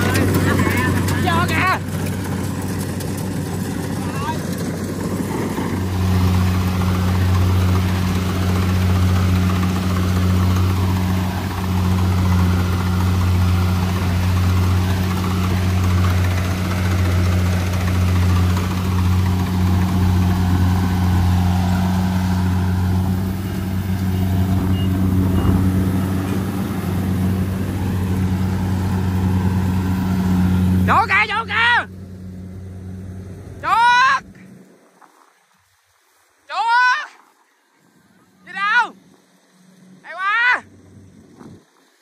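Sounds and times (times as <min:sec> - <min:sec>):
small engine humming: 0:00.0 - 0:33.7.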